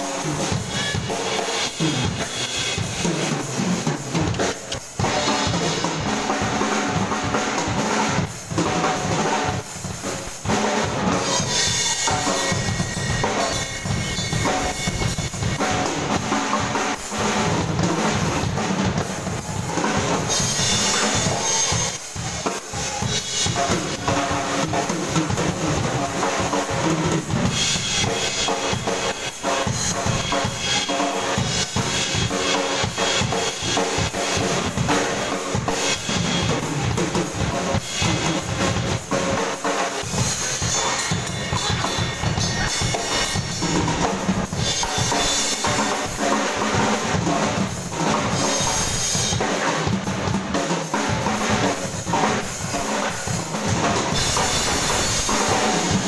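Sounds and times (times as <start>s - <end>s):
cymbal wash: 0.0s - 56.0s
drum kits played hard: 0.0s - 56.0s.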